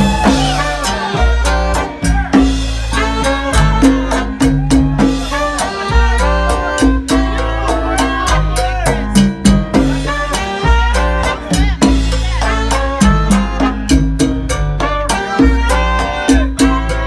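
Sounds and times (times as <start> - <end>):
congas drumming: 0.0 - 17.0
salsa band playing: 0.0 - 17.0.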